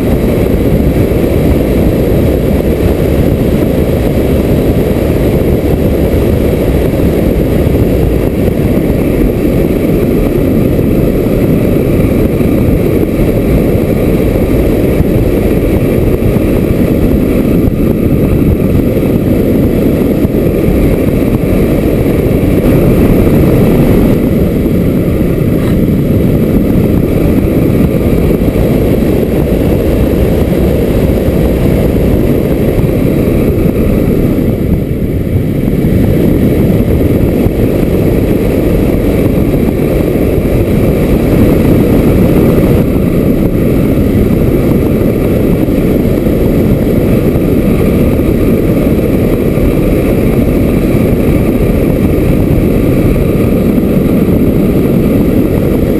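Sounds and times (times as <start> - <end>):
wind rushing over camera: 0.0 - 55.9.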